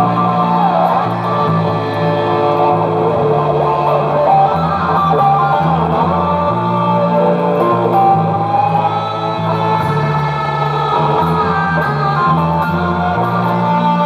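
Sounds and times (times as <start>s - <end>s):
electric guitar lead line: 0.0s - 14.0s
sustained low guitar notes: 0.0s - 14.0s.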